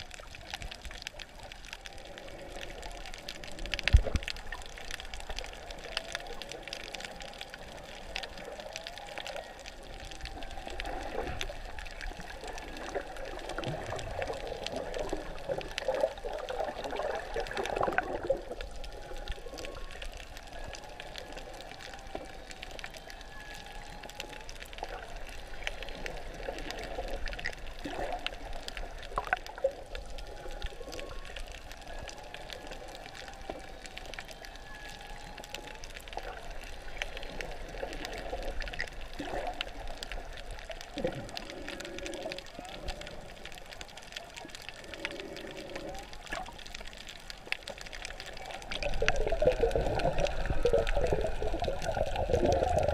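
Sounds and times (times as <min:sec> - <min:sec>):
water swirling underwater: 0:00.0 - 0:52.9.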